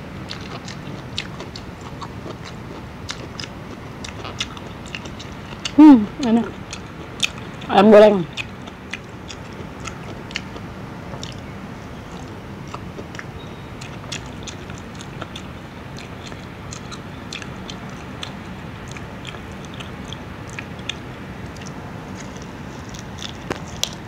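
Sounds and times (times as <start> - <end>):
low background hum: 0.0 - 24.0
chewing with wet mouth clicks: 0.3 - 24.0.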